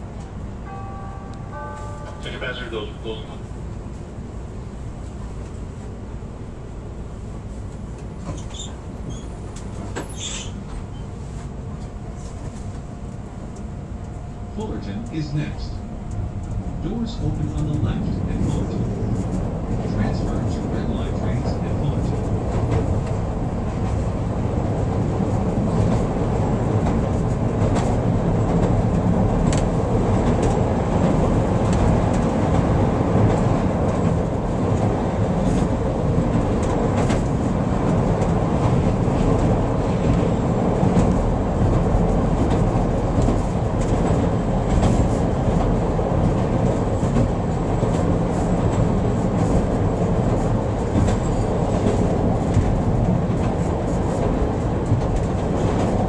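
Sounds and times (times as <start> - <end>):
train wheels rumbling on rail: 1.6 - 56.0.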